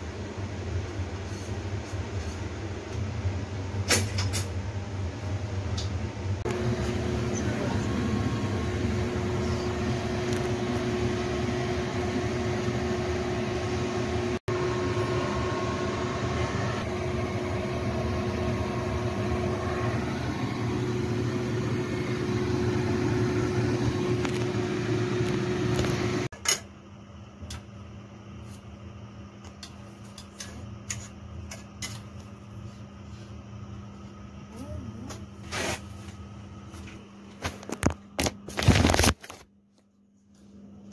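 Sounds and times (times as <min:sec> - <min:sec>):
appliance fan motor hum: 0:00.0 - 0:40.9.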